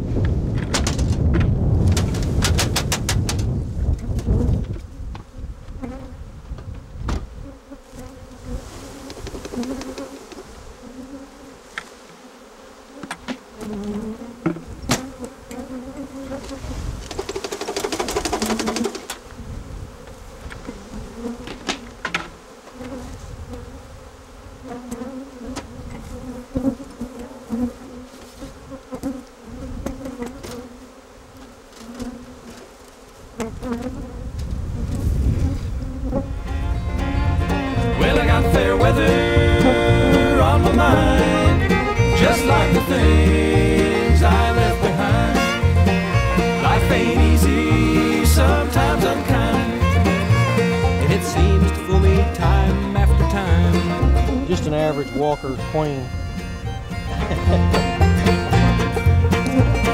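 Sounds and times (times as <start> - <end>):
honeybees buzzing: 4.3 - 6.4, 7.2 - 59.9.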